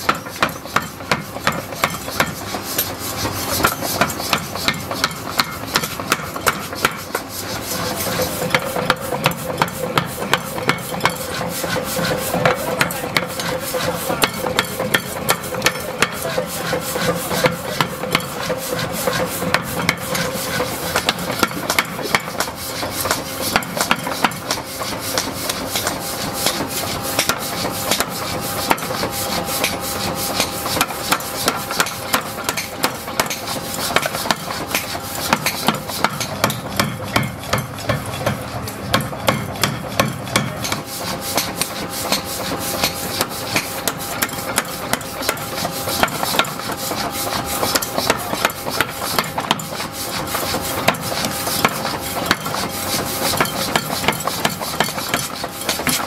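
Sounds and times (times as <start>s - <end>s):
power hammer pounding metal: 0.0s - 56.0s.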